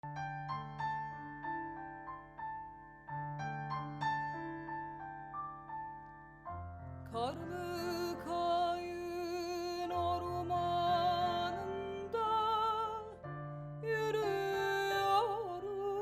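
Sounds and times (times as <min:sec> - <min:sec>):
slow gentle piano: 0:00.0 - 0:16.0.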